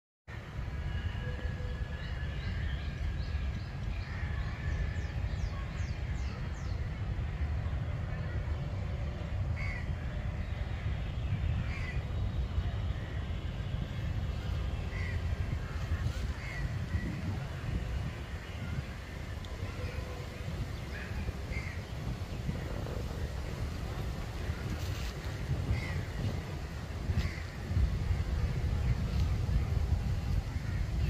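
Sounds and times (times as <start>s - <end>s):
steady low rumble: 0.3s - 31.0s.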